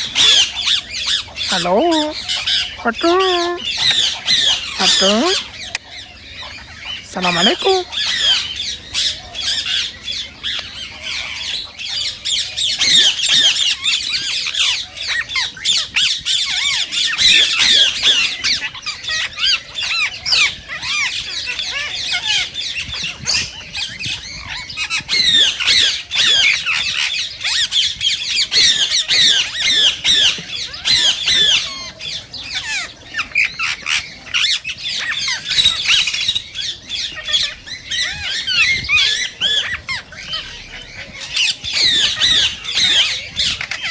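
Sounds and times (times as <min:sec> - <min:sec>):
parakeets squawking: 0:00.0 - 0:43.9.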